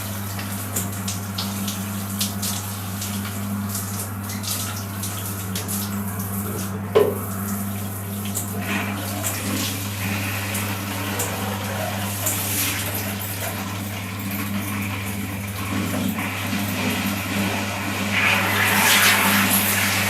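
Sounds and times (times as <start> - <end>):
water running from tap: 0.0 - 20.0.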